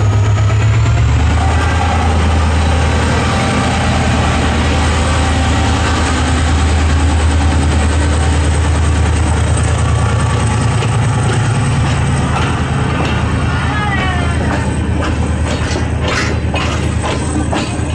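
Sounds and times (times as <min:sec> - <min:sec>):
train diesel engine idling: 0:00.0 - 0:17.9.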